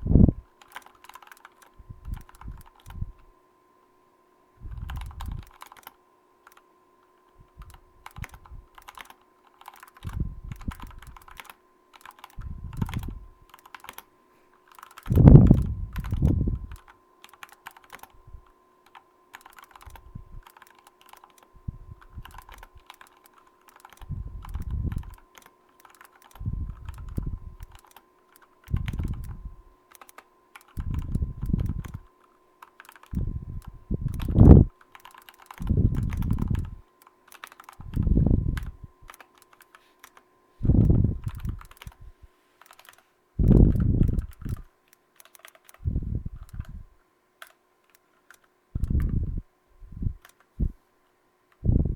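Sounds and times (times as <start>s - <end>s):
mechanical keyboard typing: 0.5s - 3.3s, 4.7s - 46.8s, 47.4s - 49.4s, 50.0s - 50.6s.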